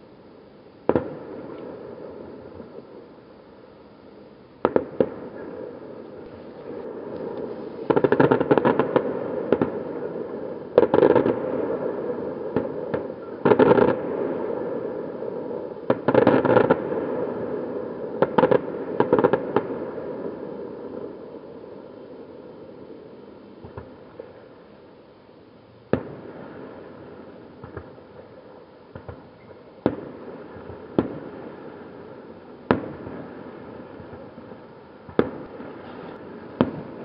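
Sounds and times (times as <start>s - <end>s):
fireworks crackling: 0.7s - 37.0s
fireworks bangs: 0.8s - 3.1s, 4.6s - 24.6s, 25.8s - 37.0s.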